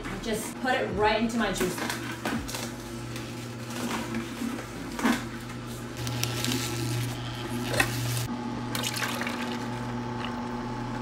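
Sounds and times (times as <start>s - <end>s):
juicer motor humming: 1.4s - 11.0s
leaves crunching in juicer: 1.6s - 11.0s.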